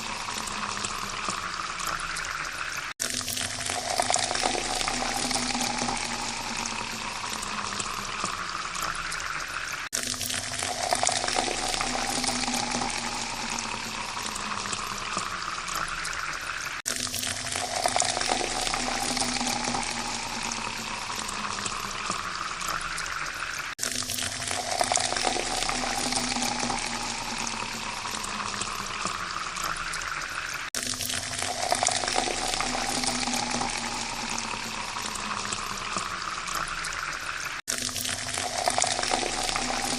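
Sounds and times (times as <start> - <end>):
water pouring into a glass: 0.0 - 39.9.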